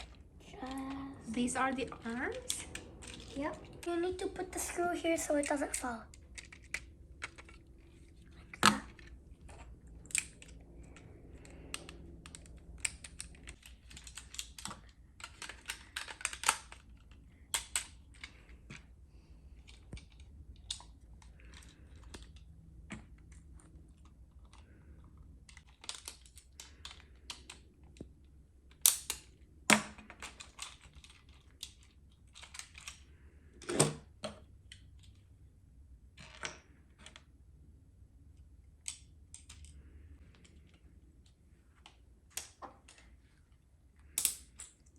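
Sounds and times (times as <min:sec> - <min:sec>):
plastic toy parts clicking: 0:00.0 - 0:18.9, 0:19.5 - 0:33.2, 0:38.7 - 0:43.1, 0:44.0 - 0:44.9.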